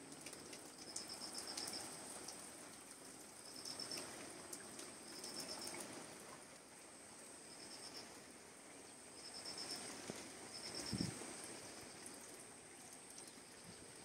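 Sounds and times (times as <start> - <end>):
heavy rain on leaves: 0.0 - 14.0.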